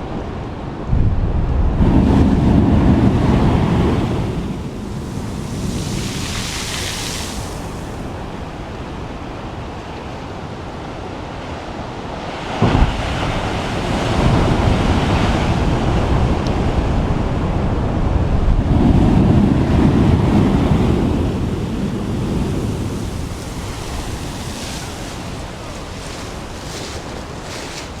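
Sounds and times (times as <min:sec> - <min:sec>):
wind buffeting microphone: 0:00.0 - 0:09.8, 0:10.4 - 0:28.0
waves washing against rocks: 0:01.6 - 0:09.0, 0:12.1 - 0:18.0, 0:18.6 - 0:28.0.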